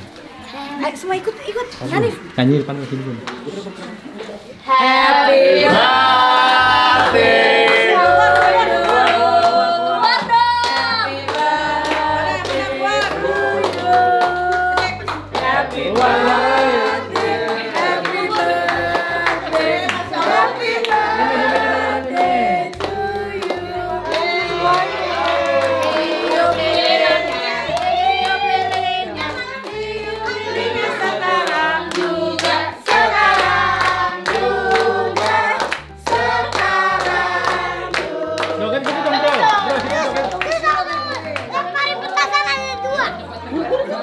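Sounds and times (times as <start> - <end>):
people singing a birthday tune: 4.2 - 44.0
people clapping in time: 5.7 - 42.7.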